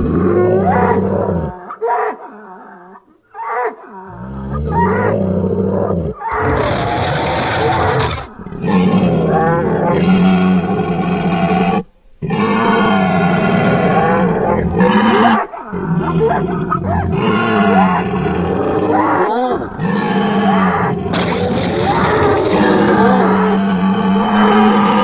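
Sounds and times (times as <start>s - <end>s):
creature roaring calls: 0.0s - 25.0s.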